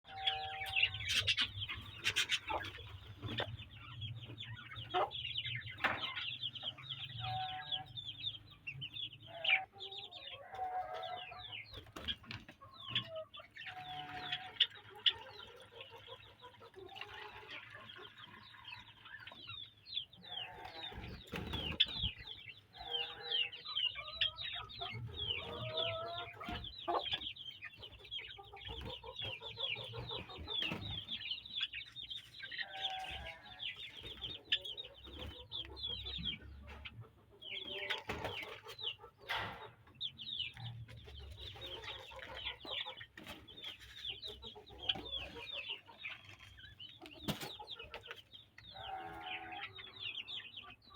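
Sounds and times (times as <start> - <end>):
birds chirping: 0.0 - 50.9
chickens clucking: 0.0 - 50.9.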